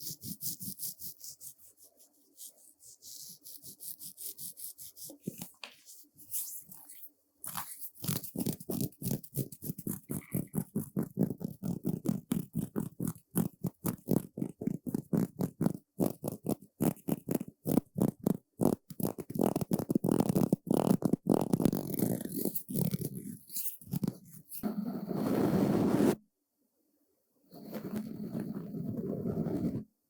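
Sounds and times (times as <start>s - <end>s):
scratchy brush strokes: 0.0s - 26.2s.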